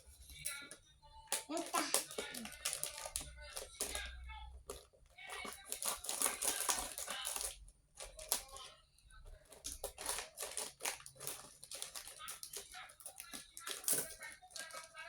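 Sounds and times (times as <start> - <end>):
plastic wrappers crinkling: 0.0 - 15.0.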